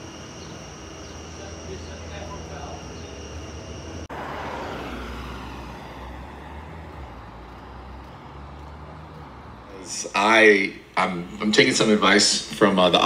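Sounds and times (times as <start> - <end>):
low traffic rumble: 0.0 - 13.0
passing vehicle hiss: 1.4 - 12.1.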